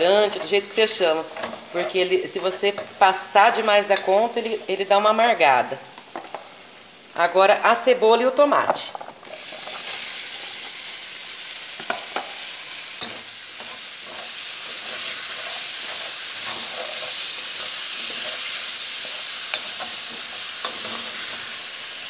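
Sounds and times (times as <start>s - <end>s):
onion and tomato sizzling in oil: 0.0s - 22.0s.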